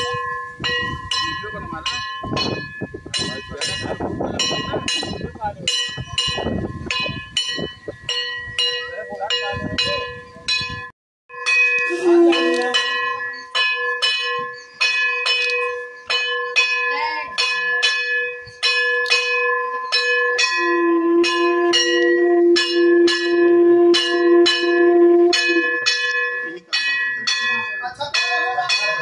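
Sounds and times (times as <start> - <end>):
brass bell struck: 0.0 - 29.0.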